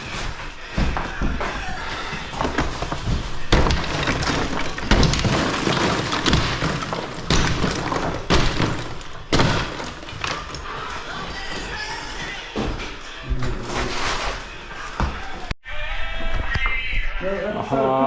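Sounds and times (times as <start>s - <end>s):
debris clattering: 0.0s - 15.5s.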